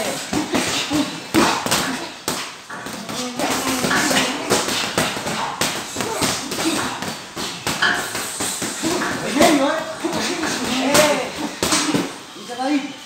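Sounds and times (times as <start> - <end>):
boxing gloves smacking: 0.0 - 12.1.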